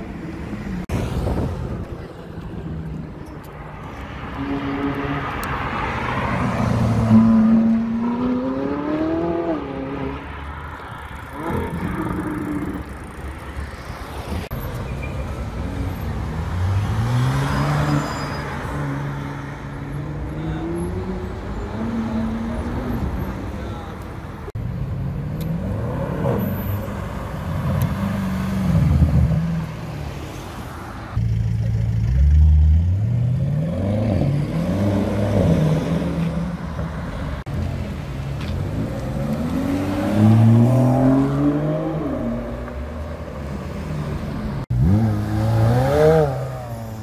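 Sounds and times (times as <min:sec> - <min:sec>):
street traffic noise: 0:00.0 - 0:47.0.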